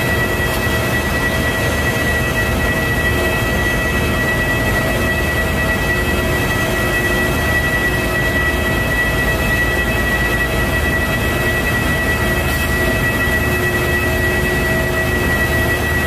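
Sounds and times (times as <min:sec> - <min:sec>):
high jet whine: 0:00.0 - 0:16.0
jet engines rumbling: 0:00.0 - 0:16.0.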